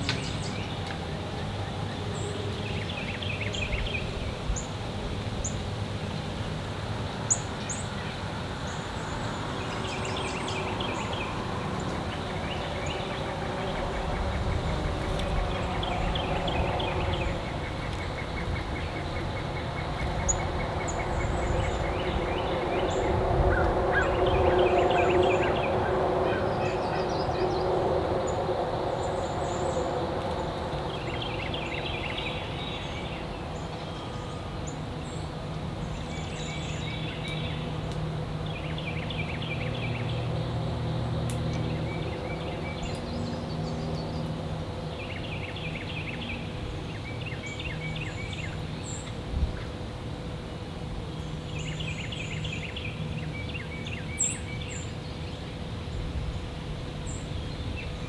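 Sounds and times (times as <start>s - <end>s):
low outdoor rumble: 0.0s - 58.0s
songbirds singing: 0.0s - 58.0s.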